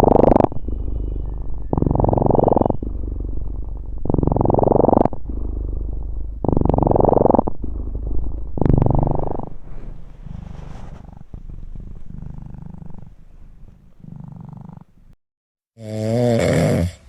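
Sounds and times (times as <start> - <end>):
cat purring: 0.0 - 15.2.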